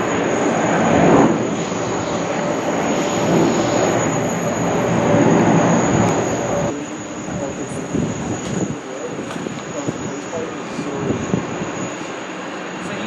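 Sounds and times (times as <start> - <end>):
faint engine whine: 0.0 - 13.0
jet engines rushing: 0.0 - 13.0.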